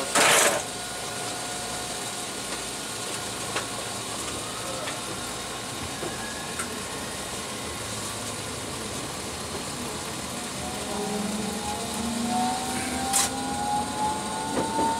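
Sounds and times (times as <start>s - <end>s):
faint motor whine: 0.0s - 14.9s
tram wheels rumbling: 0.0s - 14.9s.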